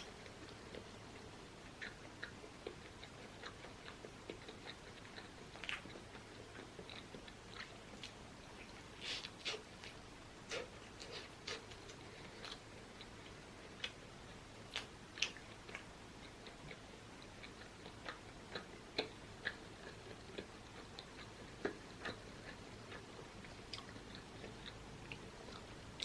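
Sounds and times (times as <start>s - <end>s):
chewing mouth clicks and smacks: 1.8s - 13.1s, 13.8s - 26.0s.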